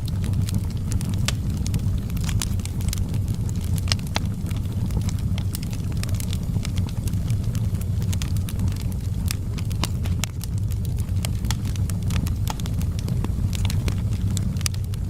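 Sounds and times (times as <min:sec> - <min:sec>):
fire crackling pops and snaps: 0:00.0 - 0:15.0
fire low rumble: 0:00.0 - 0:15.0.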